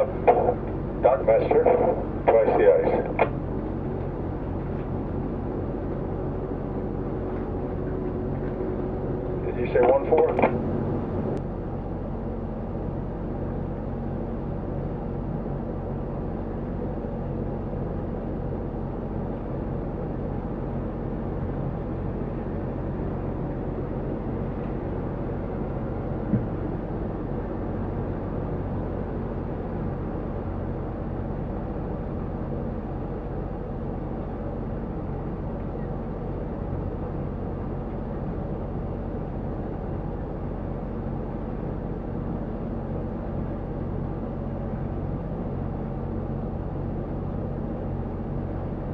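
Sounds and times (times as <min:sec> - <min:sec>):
boat engine low drone: 0:00.0 - 0:48.9.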